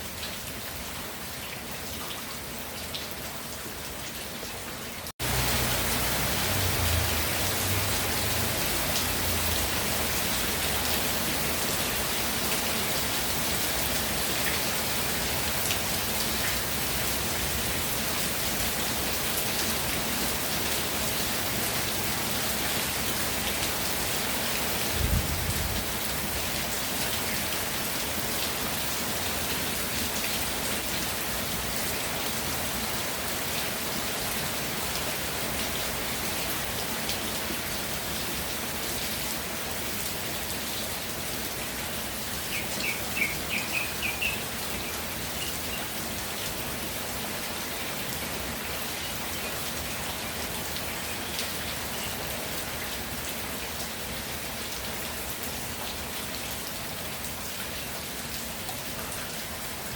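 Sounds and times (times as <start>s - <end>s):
rain pattering: 0.1s - 59.9s.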